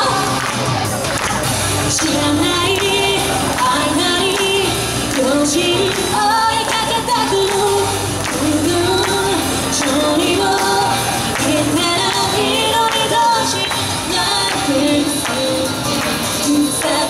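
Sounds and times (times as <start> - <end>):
female vocal group singing: 0.0 - 0.6, 1.8 - 17.0
amplified pop track with beat: 0.0 - 17.0.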